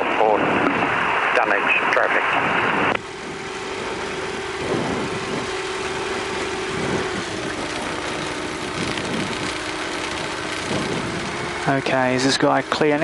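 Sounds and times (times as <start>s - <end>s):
light aircraft engine running: 0.0s - 13.0s.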